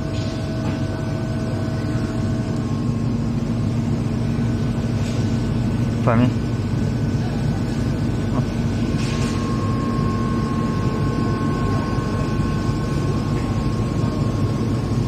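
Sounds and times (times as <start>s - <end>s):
laser cutting machine rumble: 0.0s - 15.0s
thin steady whine: 0.0s - 15.0s.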